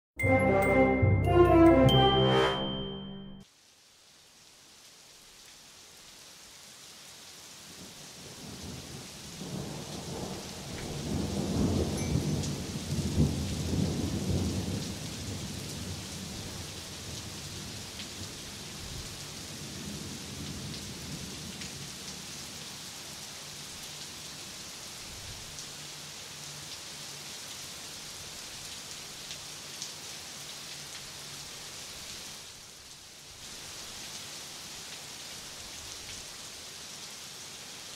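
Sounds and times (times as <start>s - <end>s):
steady rain: 3.4s - 37.9s.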